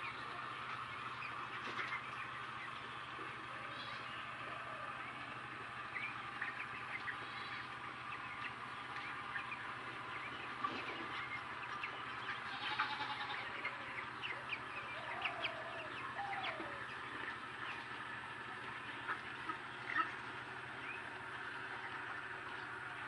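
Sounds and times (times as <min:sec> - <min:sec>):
chickens clucking and chirping: 0:00.0 - 0:23.0
steady low hum: 0:00.0 - 0:23.0.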